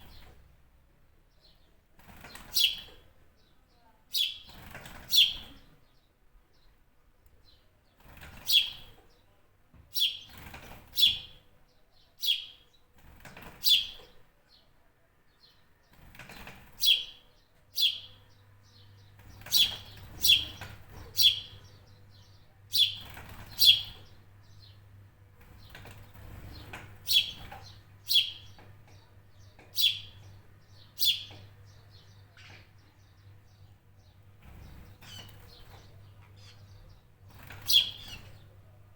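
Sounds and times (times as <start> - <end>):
bird chirping: 0.0 - 0.4, 1.3 - 14.7, 15.3 - 38.9.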